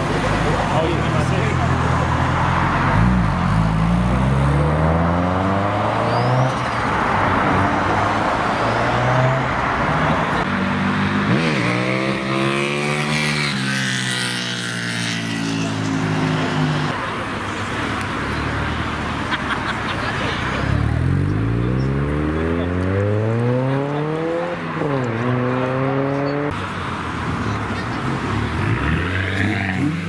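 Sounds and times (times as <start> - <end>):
car engines revving and accelerating: 0.0 - 30.0.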